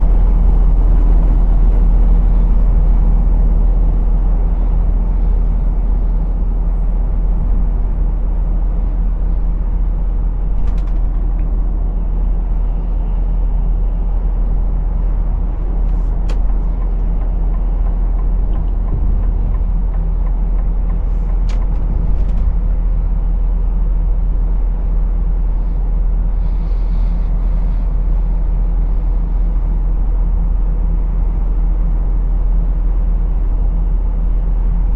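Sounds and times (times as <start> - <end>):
diesel lorry engine rumbling: 0.0 - 34.9.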